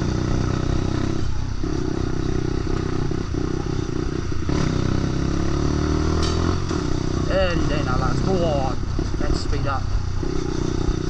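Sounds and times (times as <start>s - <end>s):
motorcycle engine running low revs: 0.0s - 11.0s.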